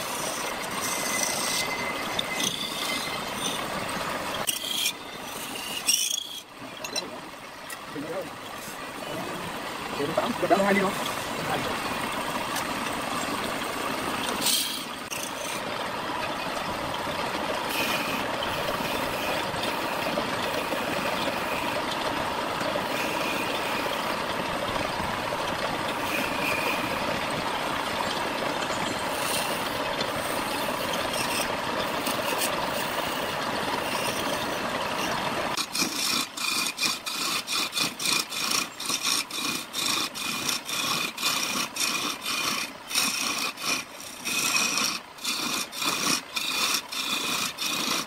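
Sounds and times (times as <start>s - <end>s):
hand sanding spinning wood: 0.0s - 6.6s, 8.5s - 48.0s
turning tool scraping wood: 0.0s - 48.0s
wood lathe running: 0.0s - 48.0s.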